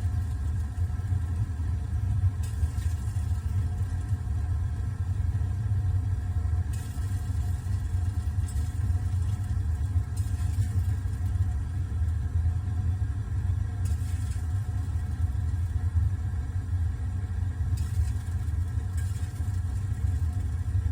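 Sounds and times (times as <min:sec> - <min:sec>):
gas burner rumbling: 0:00.0 - 0:20.9.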